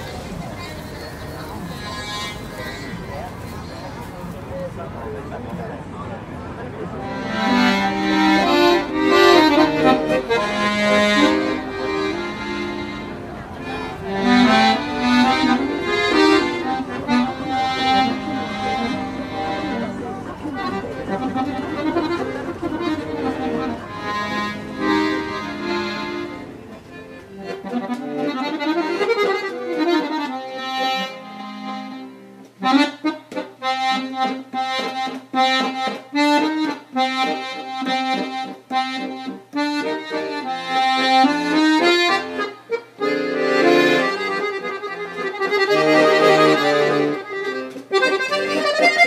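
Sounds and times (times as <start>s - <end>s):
piano accordion playing: 0.0s - 5.2s, 6.6s - 49.0s.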